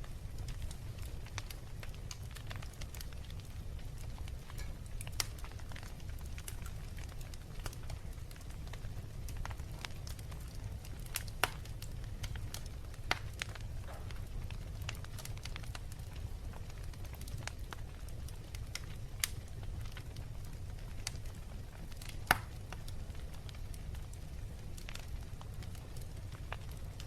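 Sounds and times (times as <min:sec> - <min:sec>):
fire snaps and pops: 0:00.0 - 0:27.0
wood fire crackling: 0:00.0 - 0:27.0.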